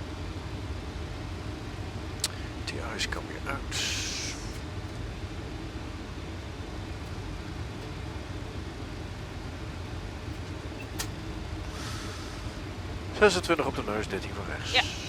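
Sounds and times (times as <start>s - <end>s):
airplane cockpit rushing noise: 2.2s - 15.0s.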